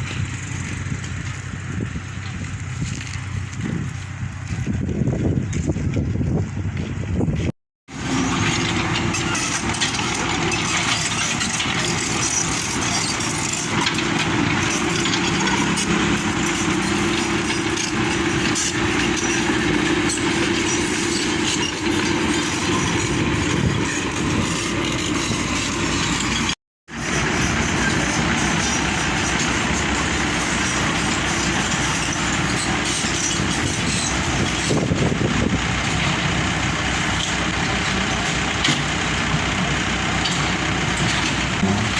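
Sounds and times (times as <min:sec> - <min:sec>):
road and wind noise: 0:00.0 - 0:41.9
truck engine running: 0:00.0 - 0:41.9.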